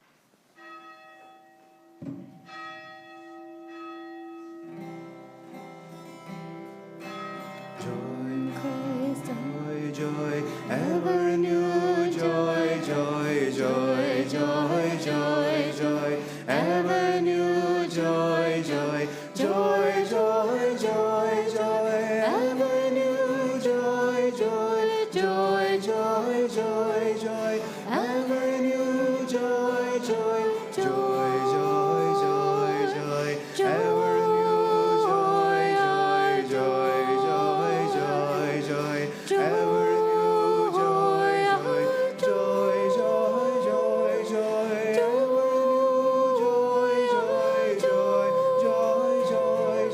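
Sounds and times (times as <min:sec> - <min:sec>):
voices singing devotional chant: 0:07.8 - 0:49.9.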